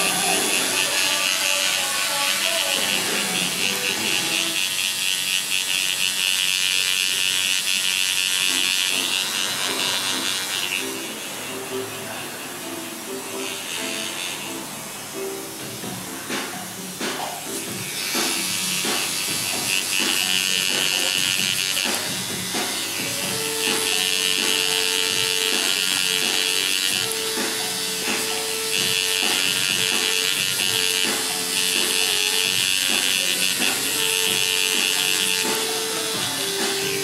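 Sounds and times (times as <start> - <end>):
tattoo machine buzzing: 0.0 - 37.0.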